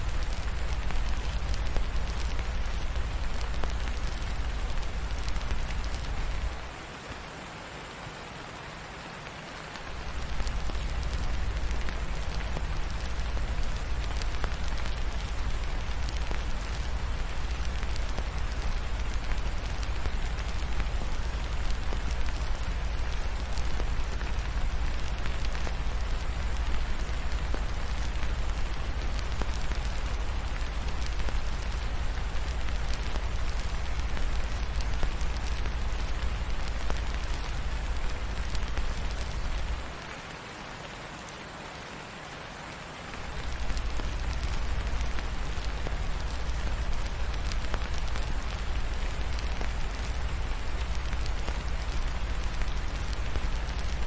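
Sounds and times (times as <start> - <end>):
fireplace crackling: 0.0 - 7.2, 8.9 - 41.4, 43.1 - 54.0
steady rain falling: 0.0 - 54.0.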